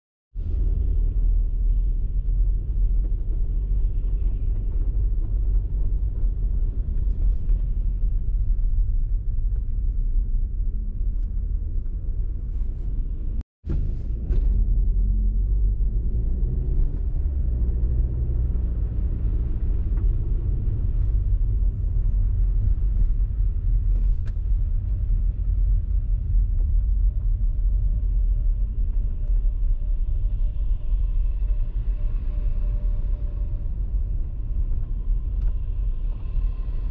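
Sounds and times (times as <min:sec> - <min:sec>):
car driving rumble: 0:00.4 - 0:36.9.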